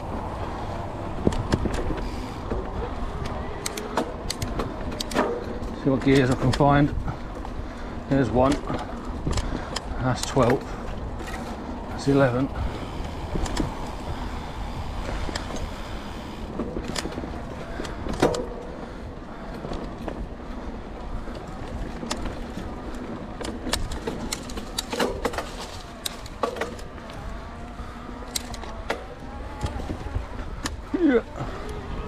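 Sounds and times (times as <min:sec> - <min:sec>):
bike tyres rolling on dirt: 0:00.0 - 0:32.0.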